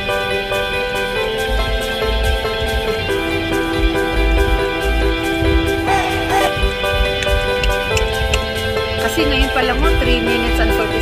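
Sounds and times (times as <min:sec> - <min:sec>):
sustained instrumental tones: 0:00.0 - 0:11.0
regular low beat: 0:01.3 - 0:10.6.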